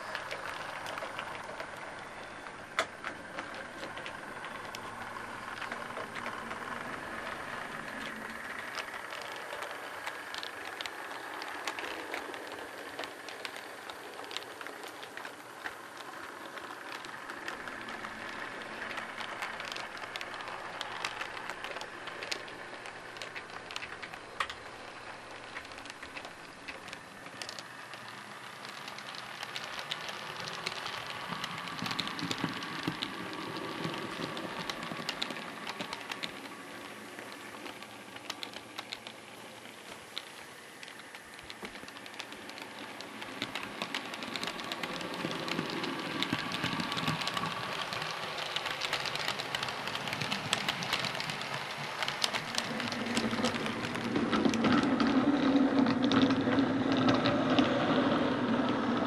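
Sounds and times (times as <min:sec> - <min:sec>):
model train wheels clicking: 0:00.0 - 0:59.0.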